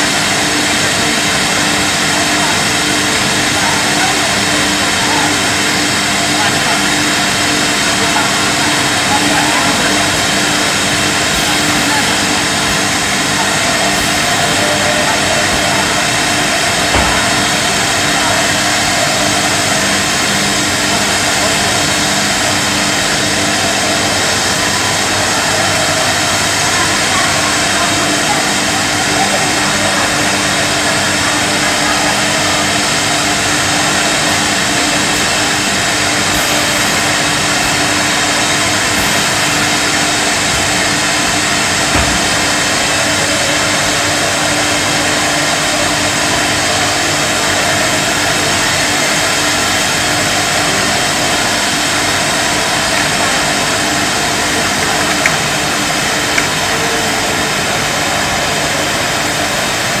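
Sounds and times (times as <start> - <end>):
machinery running: 0.0 - 60.0.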